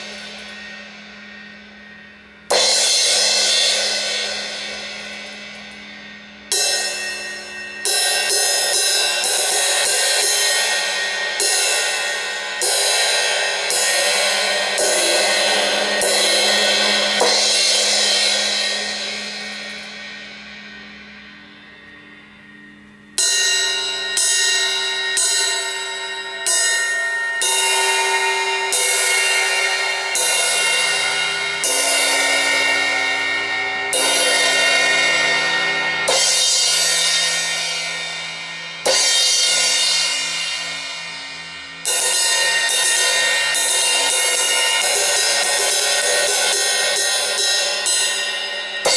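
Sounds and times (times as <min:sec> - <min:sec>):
crash cymbal struck with drumstick: 0:00.0 - 0:48.9.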